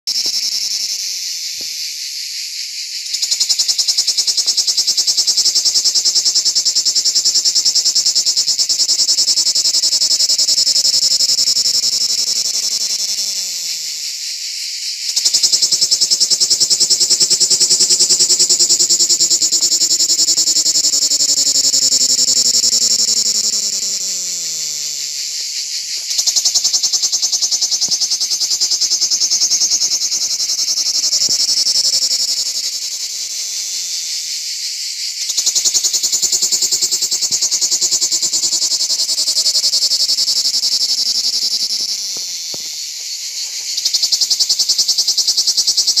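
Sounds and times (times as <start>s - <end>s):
cicada buzzing: 0.1s - 46.0s.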